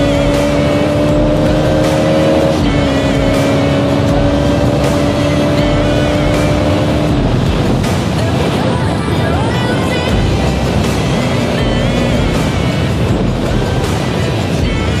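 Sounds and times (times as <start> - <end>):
motorcycle engine running: 0.0 - 15.0
rushing noise: 0.0 - 15.0.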